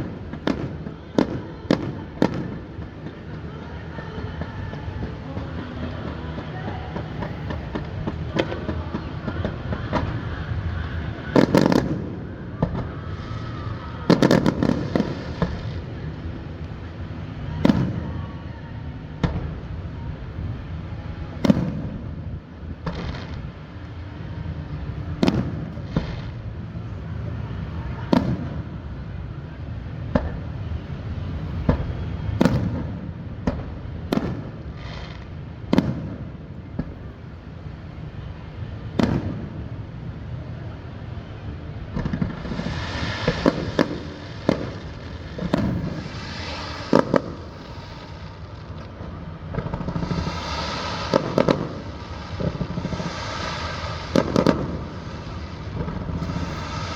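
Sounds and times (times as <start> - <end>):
fireworks booming: 0.0 - 18.6, 19.2 - 29.2, 29.8 - 56.9
fireworks crackling: 0.0 - 56.9.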